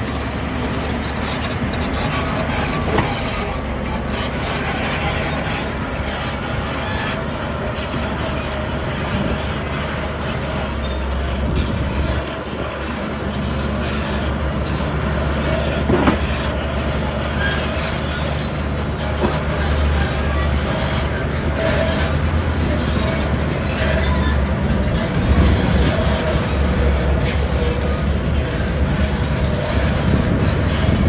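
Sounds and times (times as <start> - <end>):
diesel machinery engine drone: 0.0 - 31.0.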